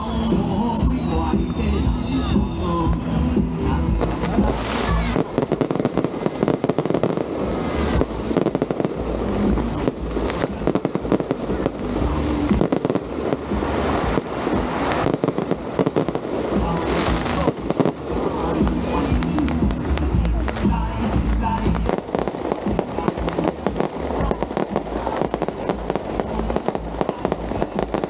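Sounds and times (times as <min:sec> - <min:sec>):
fireworks banging and crackling: 0:00.0 - 0:28.0.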